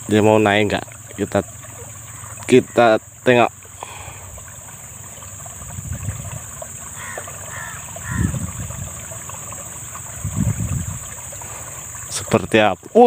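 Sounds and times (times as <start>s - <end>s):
low outdoor rumbling: 0.0s - 12.3s.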